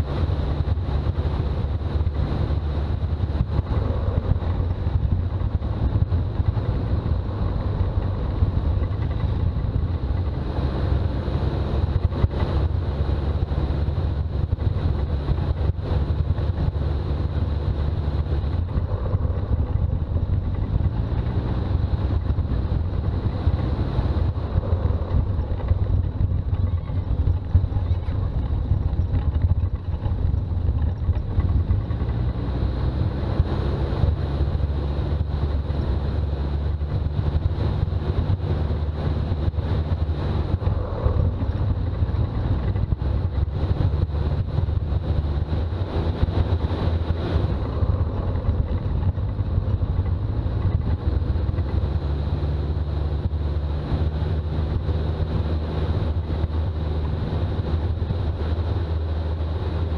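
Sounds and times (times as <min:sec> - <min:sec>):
diesel engine running: 0:00.0 - 0:59.9
road noise: 0:00.0 - 0:59.9.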